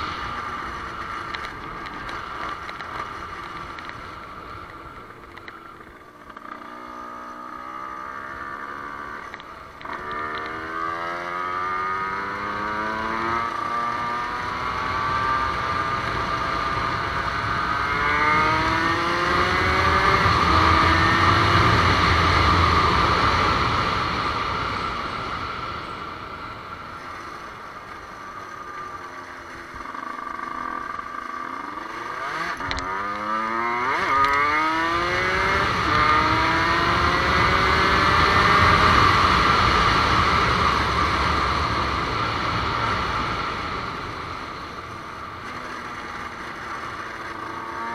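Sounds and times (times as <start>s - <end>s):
motorcycle engine accelerating: 0.0s - 47.9s
wind and road noise: 0.0s - 47.9s.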